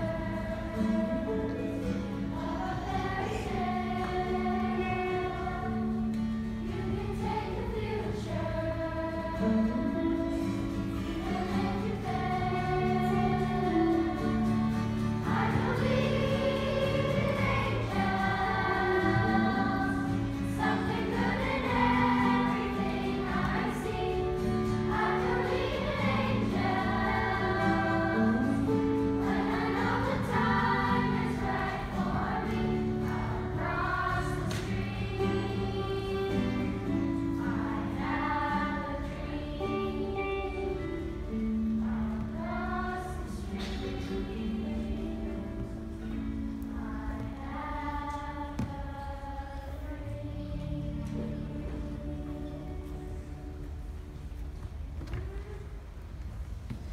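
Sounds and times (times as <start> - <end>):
children's choir singing: 0.0 - 55.7
guitar: 0.0 - 56.9.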